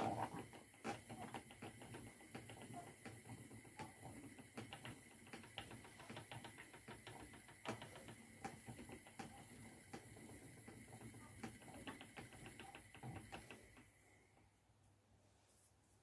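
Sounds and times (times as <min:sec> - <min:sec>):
spinning wheel clicking: 0:00.0 - 0:14.0
faint steady whine: 0:00.0 - 0:15.6.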